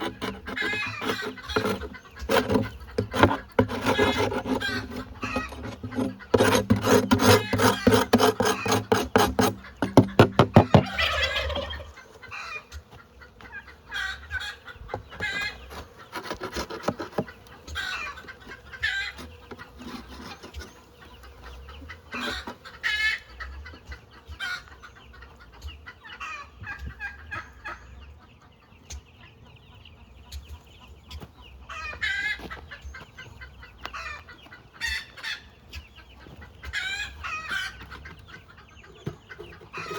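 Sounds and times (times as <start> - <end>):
poultry calling and clucking: 0.0 - 39.9.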